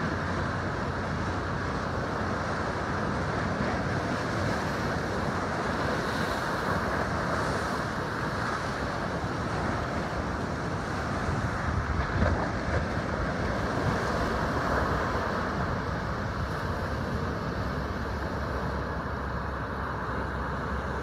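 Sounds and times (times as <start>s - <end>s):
wind buffeting microphone: 0.0s - 19.8s
surf breaking on rocky shore: 0.0s - 21.0s.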